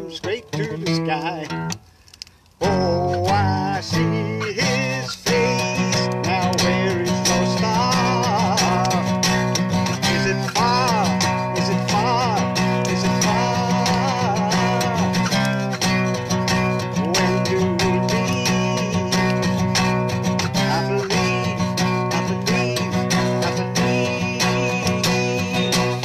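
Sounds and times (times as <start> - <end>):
acoustic guitar strumming: 0.0 - 26.0
person singing: 2.6 - 26.0.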